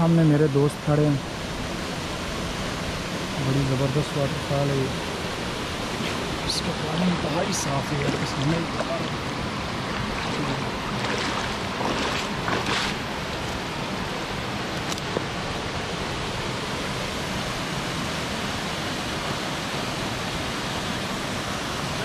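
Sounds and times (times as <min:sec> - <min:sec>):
waterfall rushing over rock: 0:00.0 - 0:22.0.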